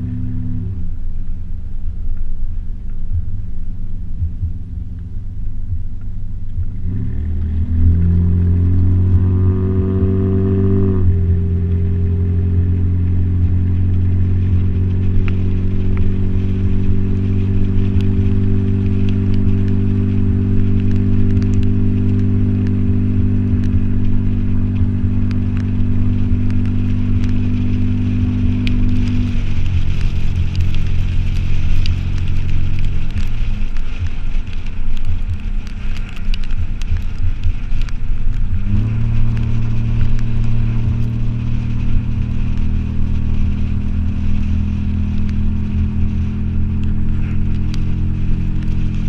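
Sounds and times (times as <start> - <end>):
car engine revving: 0.0 - 49.0
car exhaust drone: 0.0 - 49.0.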